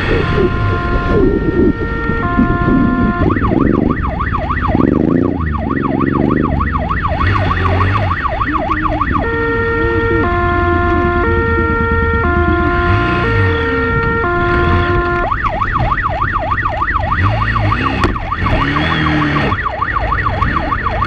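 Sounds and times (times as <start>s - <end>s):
motorcycle engine revving: 0.0s - 15.4s, 16.8s - 21.0s
police siren: 0.0s - 21.0s.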